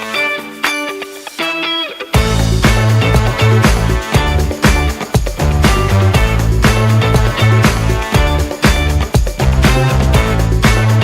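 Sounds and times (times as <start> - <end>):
funky upbeat background music: 0.0 - 11.0
drums: 2.1 - 11.0
bass line: 2.2 - 11.0.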